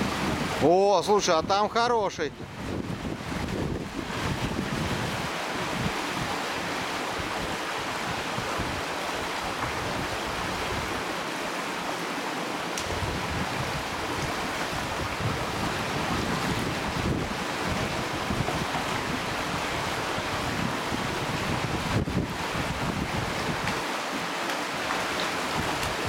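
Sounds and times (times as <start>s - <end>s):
wind buffeting microphone: 0.0s - 0.7s, 2.3s - 11.1s, 12.8s - 23.9s, 25.0s - 26.0s
river rushing over boulders: 0.0s - 26.0s.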